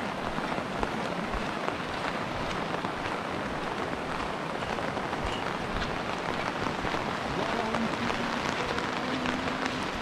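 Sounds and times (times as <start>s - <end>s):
raindrops ticking close: 0.0s - 10.0s
steady rain falling: 0.0s - 10.0s.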